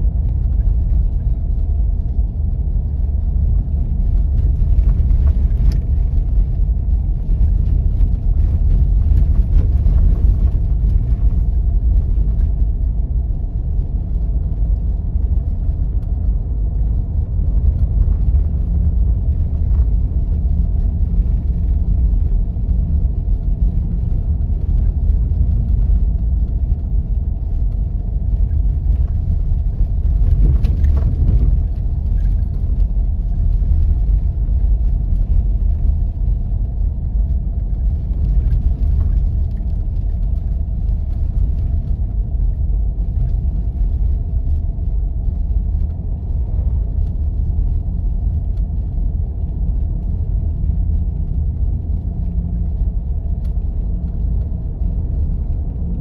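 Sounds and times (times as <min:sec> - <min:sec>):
engine and tyres rumbling on snow: 0:00.0 - 0:56.0.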